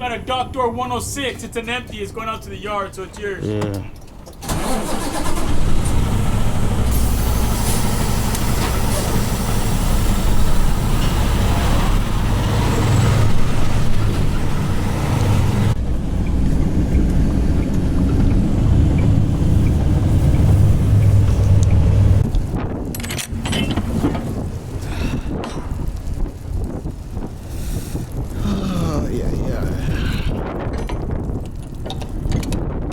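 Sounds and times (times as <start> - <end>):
diesel truck engine rumbling: 3.4 - 31.2.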